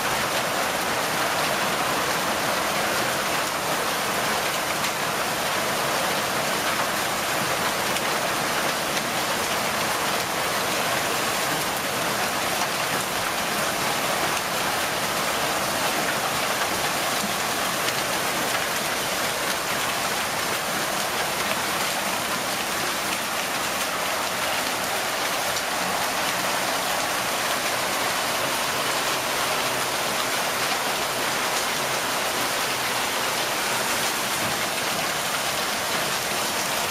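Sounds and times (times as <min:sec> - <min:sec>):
hail and rain pelting: 0:00.0 - 0:36.9.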